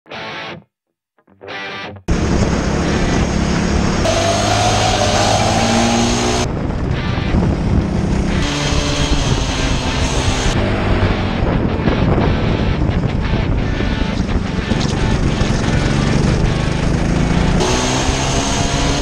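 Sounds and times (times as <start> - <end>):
go-kart engines racing: 2.1 - 19.0.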